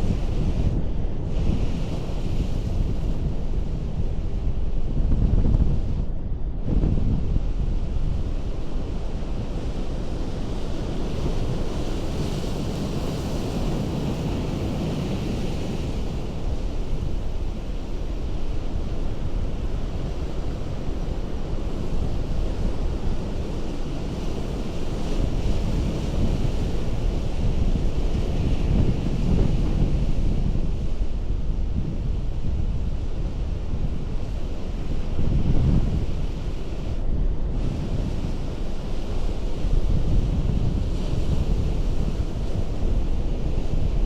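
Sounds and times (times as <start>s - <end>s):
wind rumbling on microphone: 0.0s - 44.0s.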